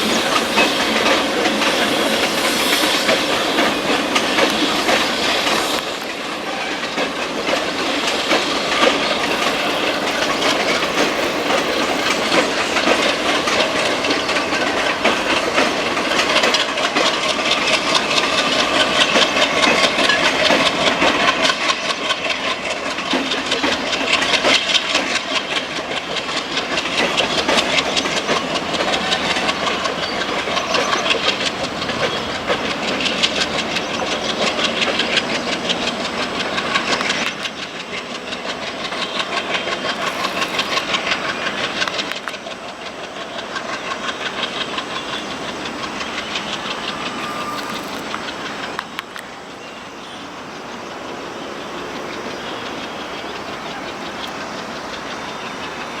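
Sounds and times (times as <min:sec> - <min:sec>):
train engine chugging: 0:00.0 - 0:56.0
train wheels clattering: 0:00.0 - 0:56.0.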